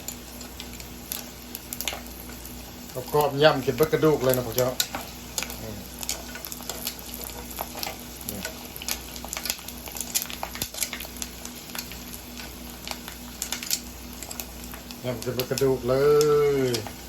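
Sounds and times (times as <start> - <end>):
food frying in hot oil: 0.0 - 17.0.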